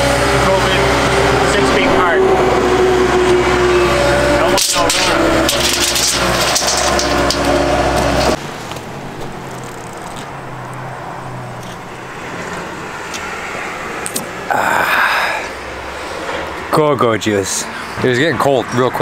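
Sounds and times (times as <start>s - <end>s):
loud engine running: 0.0s - 16.6s
low vehicle hum: 0.0s - 16.7s.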